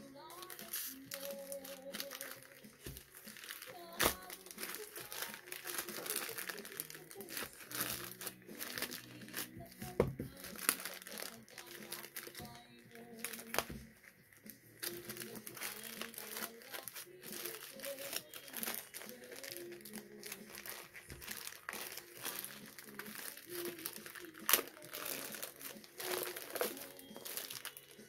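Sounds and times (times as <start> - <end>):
plastic mailer bag crinkling: 0.0 - 28.0.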